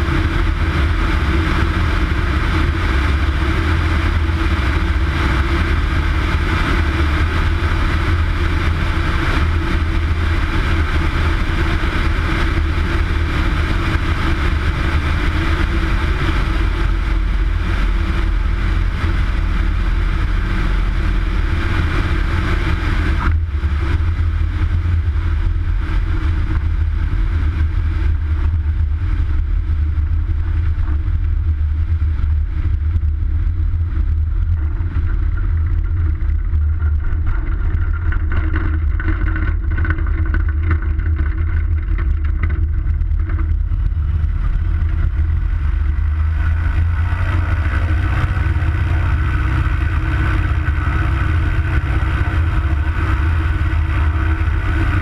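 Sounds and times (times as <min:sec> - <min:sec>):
light aircraft engine droning: 0:00.0 - 0:55.0
wind rush on microphone: 0:00.0 - 0:55.0.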